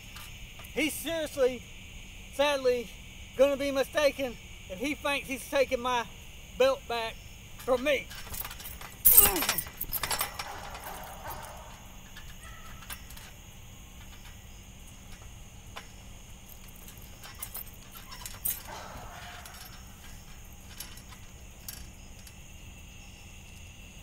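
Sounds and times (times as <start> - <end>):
trampoline springs creaking: 0.0 - 24.0.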